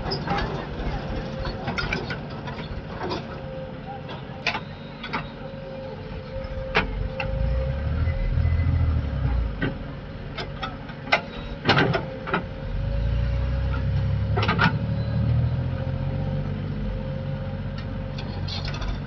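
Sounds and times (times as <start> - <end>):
steady machine whine: 0.0 - 17.6
diesel engine rumble: 0.0 - 19.0.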